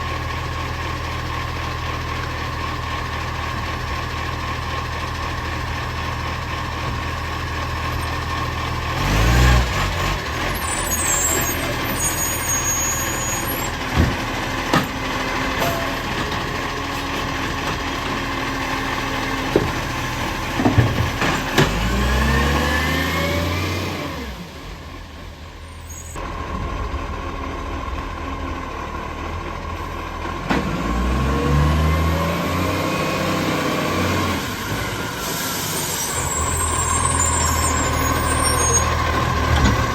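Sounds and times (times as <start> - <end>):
truck engine revving: 3.2 - 39.9.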